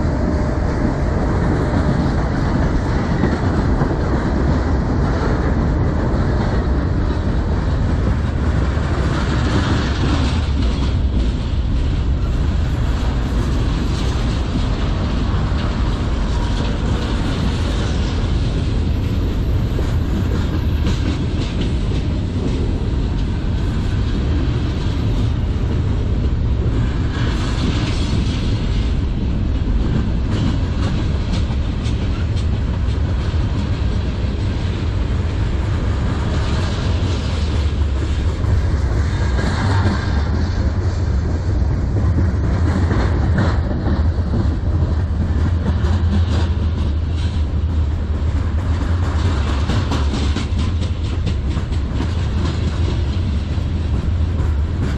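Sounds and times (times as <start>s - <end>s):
clickety-clack over rail joints: 0.0s - 54.9s
train wheels rumbling on rails: 0.0s - 54.9s.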